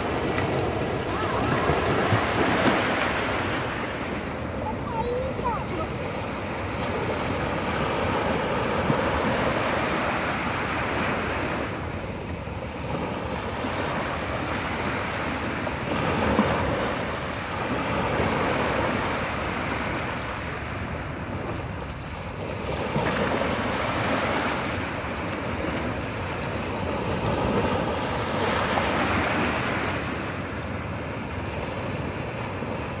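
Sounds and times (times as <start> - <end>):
sea waves breaking ashore: 0.0 - 33.0.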